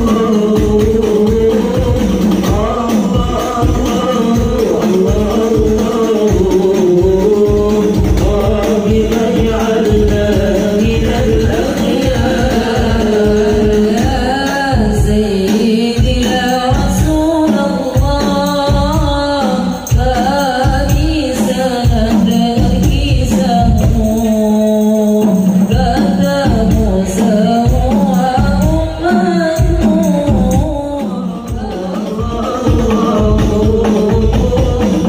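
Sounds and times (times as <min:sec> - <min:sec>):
frame drums beating: 0:00.0 - 0:35.0
religious singing over loudspeakers: 0:00.0 - 0:35.0.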